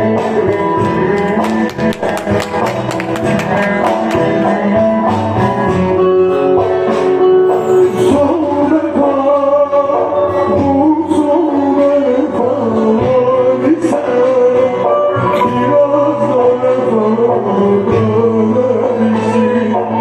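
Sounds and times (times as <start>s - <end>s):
man singing: 0.0s - 20.0s.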